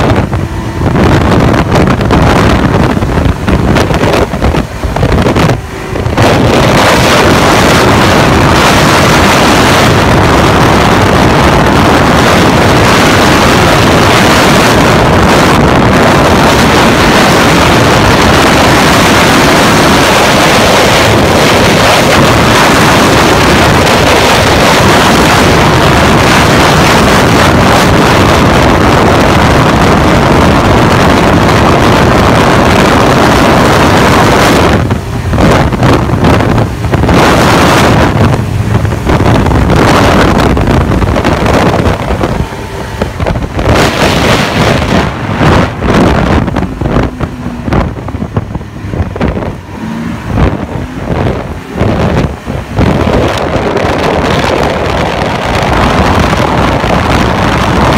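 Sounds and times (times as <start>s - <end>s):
snowmobile engine: 0.0s - 57.9s
wind noise on microphone: 0.0s - 57.9s.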